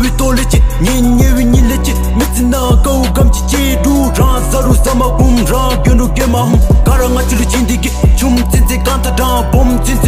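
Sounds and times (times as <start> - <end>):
rap beat with deep bass hits: 0.0 - 10.0.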